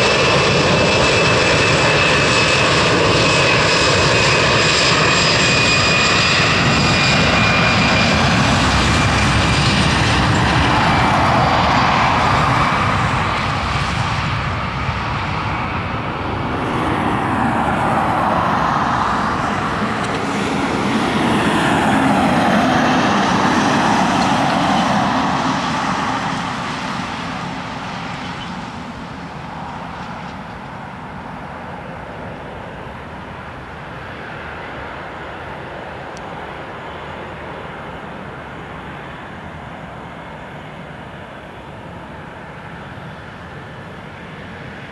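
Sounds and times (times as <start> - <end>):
jet engines with fan whine: 0.0 - 44.9
wavering jet rumble: 0.0 - 44.9.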